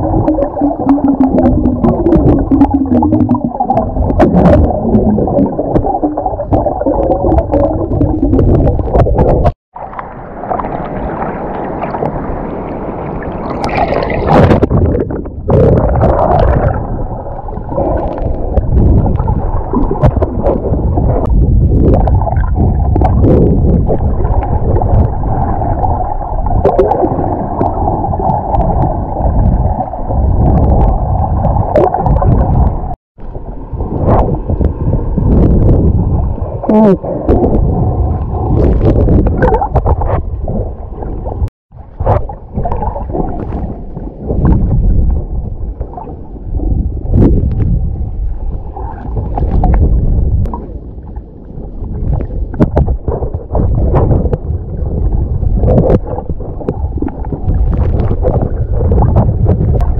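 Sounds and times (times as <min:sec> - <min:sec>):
bubbling and splashing: 0:00.0 - 0:59.9
muffled underwater water rushing: 0:00.0 - 0:59.9.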